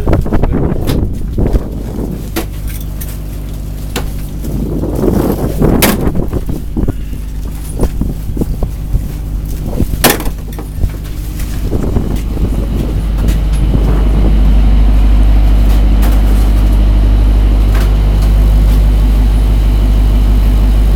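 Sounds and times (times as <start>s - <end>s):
boat engine humming: 0.0s - 20.9s.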